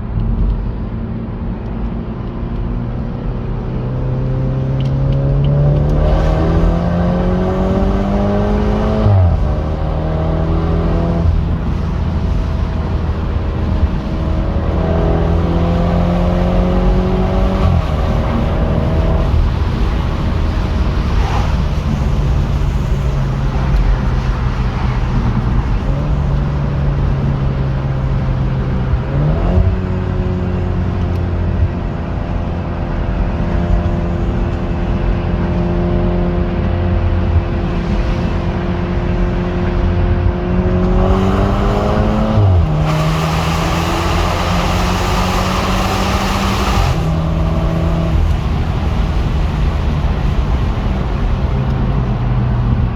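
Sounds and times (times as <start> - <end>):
car engine and exhaust: 0.0 - 52.9
road noise: 0.0 - 52.9.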